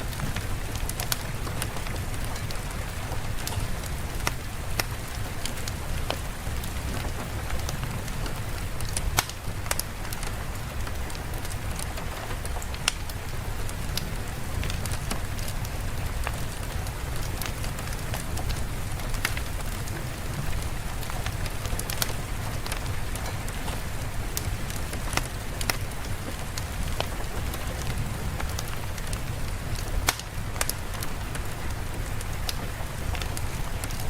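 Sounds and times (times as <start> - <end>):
sharp pops and crackles: 0.0 - 34.0
steady rain falling: 0.0 - 34.0.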